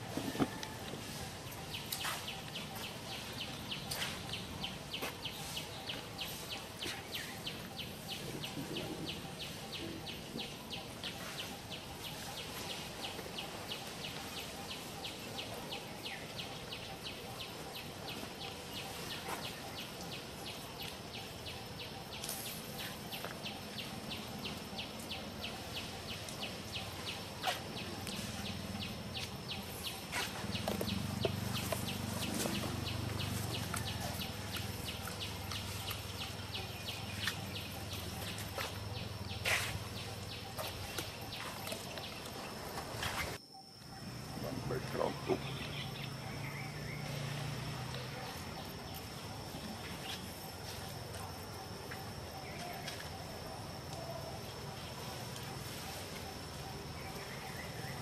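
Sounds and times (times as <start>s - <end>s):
steady background hiss: 0.0s - 58.0s
insects chirring: 0.1s - 58.0s.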